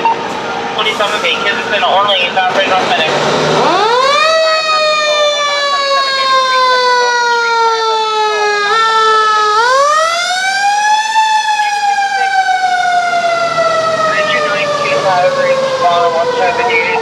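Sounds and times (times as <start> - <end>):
fire engine siren wailing: 0.0 - 17.0.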